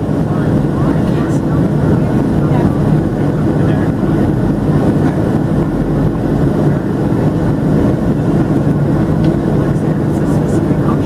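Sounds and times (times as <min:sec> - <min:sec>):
airflow over fuselage: 0:00.0 - 0:11.0
airplane cabin engine hum: 0:00.0 - 0:11.0.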